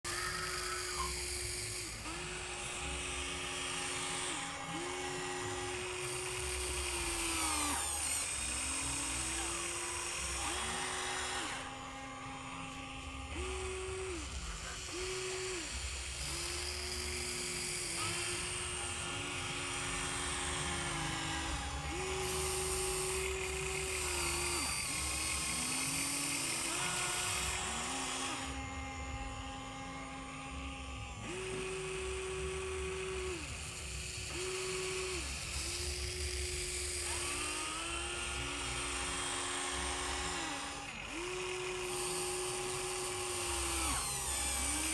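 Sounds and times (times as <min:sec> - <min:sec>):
toy excavator motors whining: 0:00.0 - 0:44.9.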